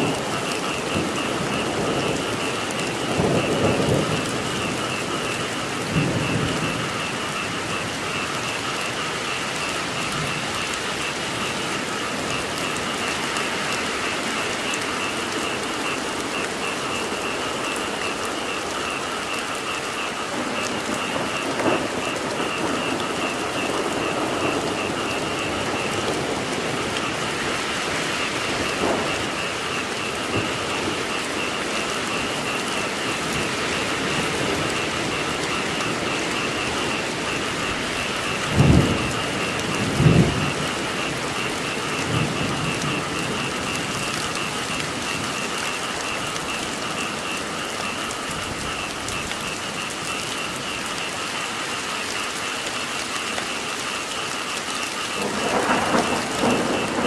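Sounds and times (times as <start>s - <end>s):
frogs calling: 0.0s - 57.0s
steady rain falling: 0.0s - 57.0s.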